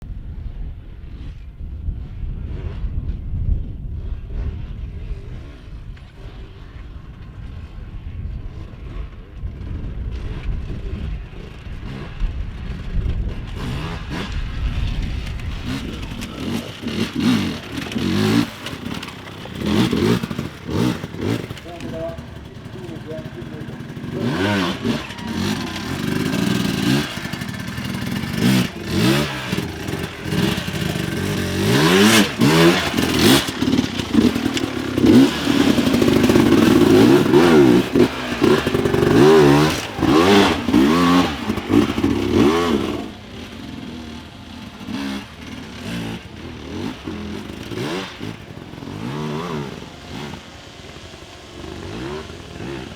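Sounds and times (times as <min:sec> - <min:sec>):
dirt bike engine revving: 0:08.5 - 0:52.9.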